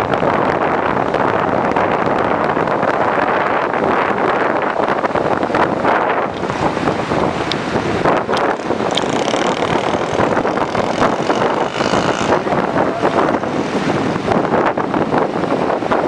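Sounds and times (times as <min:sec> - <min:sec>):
floodwater rushing: 0:00.0 - 0:16.0
wind buffeting microphone: 0:00.0 - 0:16.0.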